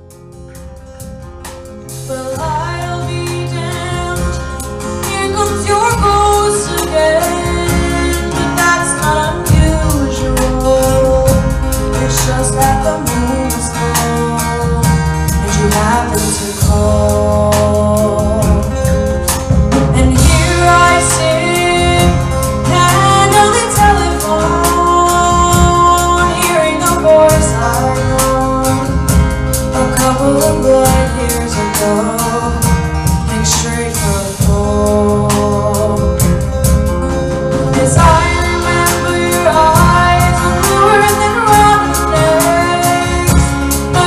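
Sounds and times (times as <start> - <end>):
strummed acoustic guitars: 0.0 - 44.0
woman singing into microphone: 1.9 - 44.0.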